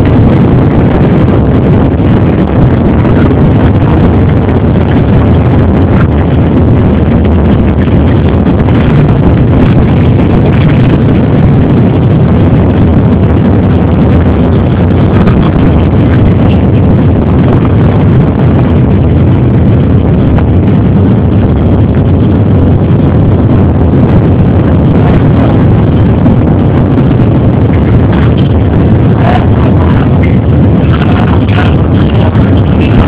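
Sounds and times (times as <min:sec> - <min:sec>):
many dirt bike engines running: 0:00.0 - 0:33.0.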